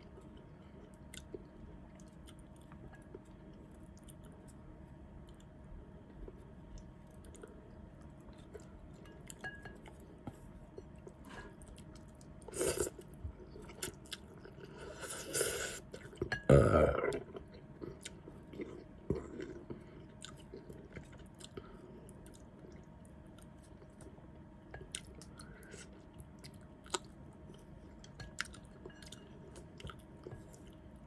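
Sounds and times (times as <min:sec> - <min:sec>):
chewing noodle soup: 0:00.2 - 0:04.5, 0:06.3 - 0:24.1, 0:24.8 - 0:31.0.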